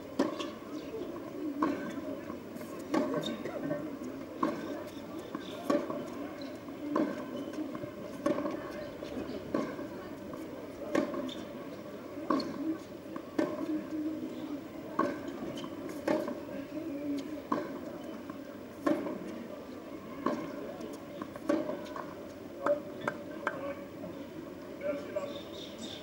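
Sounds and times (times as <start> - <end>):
low murmur of voices: 0.0 - 26.0.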